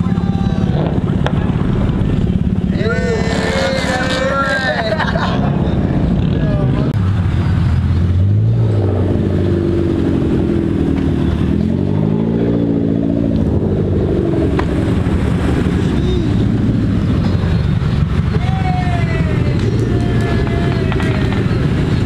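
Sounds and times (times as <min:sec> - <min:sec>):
car engine revving: 0:00.0 - 0:22.0
low engine hum: 0:00.0 - 0:22.0.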